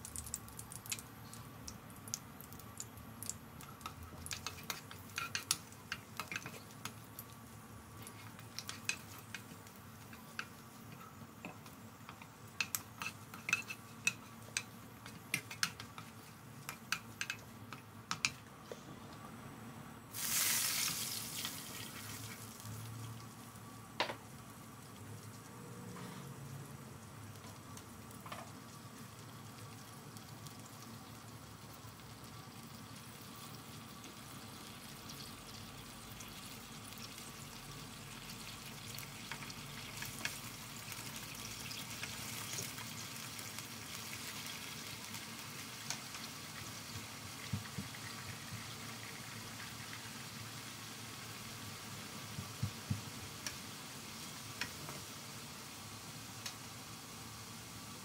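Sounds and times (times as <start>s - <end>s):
broth bubbling and sizzling: 0.0s - 18.5s, 20.1s - 58.0s.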